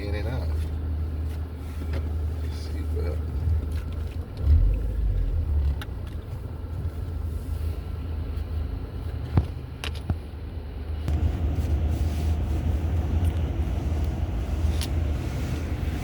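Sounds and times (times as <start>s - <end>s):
car idling rumble: 0.0s - 16.0s.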